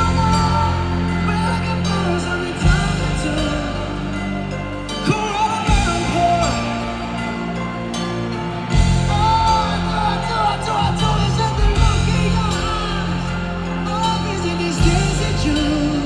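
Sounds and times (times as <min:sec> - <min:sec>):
live pop band playing: 0:00.0 - 0:16.0
person singing: 0:00.0 - 0:16.0.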